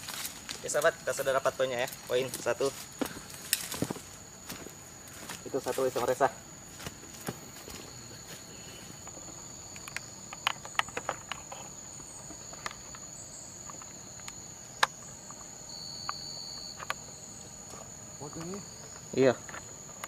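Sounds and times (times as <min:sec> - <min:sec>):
forest insects droning: 0:00.0 - 0:20.0.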